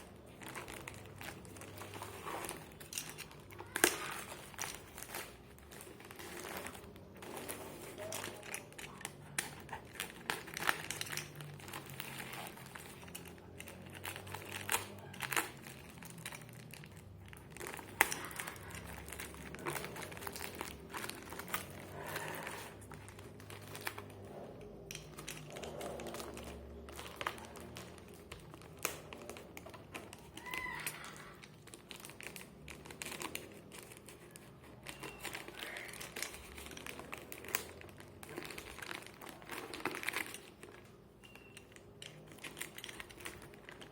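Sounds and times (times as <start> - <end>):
packaging crinkling and rustling: 0.0 - 43.9.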